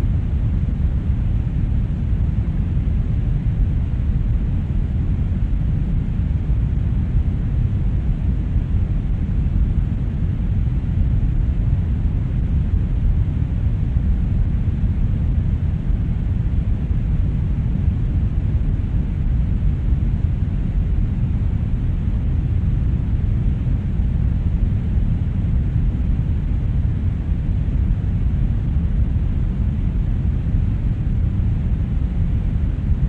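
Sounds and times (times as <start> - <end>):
brown noise: 0.0 - 33.0.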